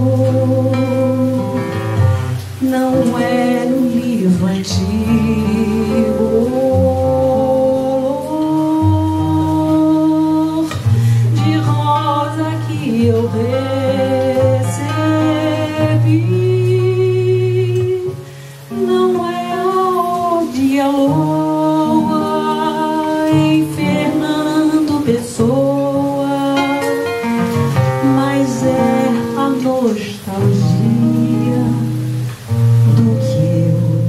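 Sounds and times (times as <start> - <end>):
nylon-string guitar: 0.0 - 34.0
woman singing slowly: 0.0 - 34.0.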